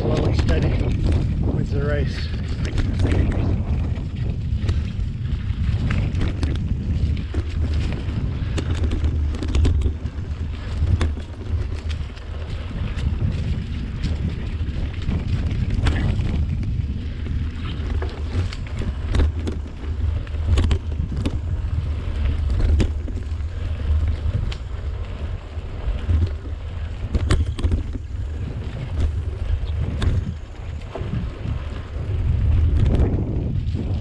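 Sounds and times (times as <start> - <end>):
bike rattles and knocks: 0.0 - 34.0
wind buffeting microphone: 0.0 - 34.0.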